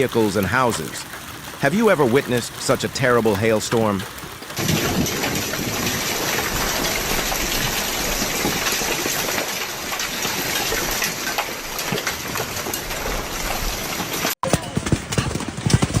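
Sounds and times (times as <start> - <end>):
hailstones pelting down: 0.0 - 16.0.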